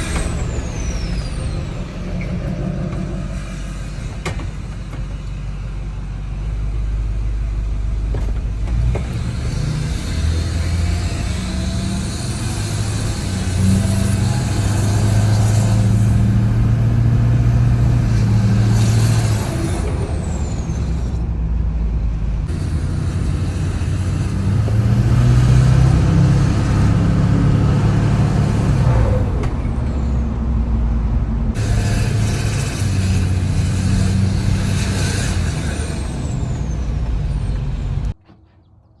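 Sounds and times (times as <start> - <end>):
diesel engine revving: 0.0 - 38.2.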